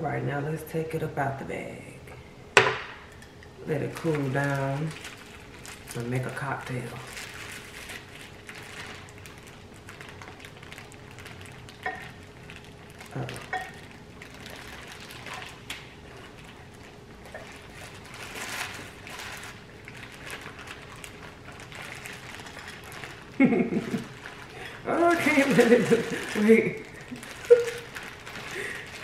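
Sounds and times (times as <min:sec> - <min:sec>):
plastic bag rustling: 0:03.6 - 0:29.0.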